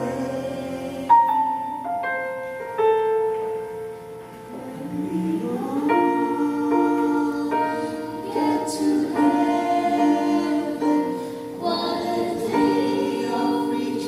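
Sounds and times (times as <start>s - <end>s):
choir singing slow worship song: 0.0s - 2.0s, 4.5s - 14.0s
piano accompaniment: 0.0s - 14.0s.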